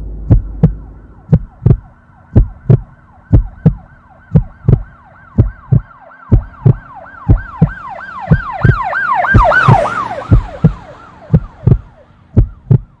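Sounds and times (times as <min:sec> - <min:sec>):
low paired thumps: 0:00.0 - 0:13.0
emergency siren wailing: 0:00.5 - 0:13.0.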